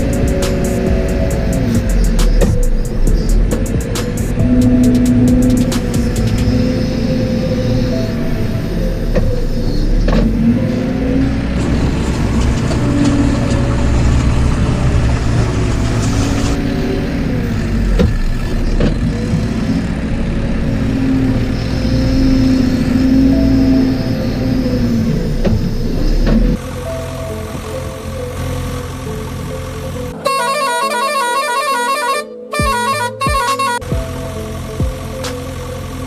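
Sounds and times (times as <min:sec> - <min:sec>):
background music: 0:00.0 - 0:36.0
vehicle engine running: 0:00.0 - 0:36.0.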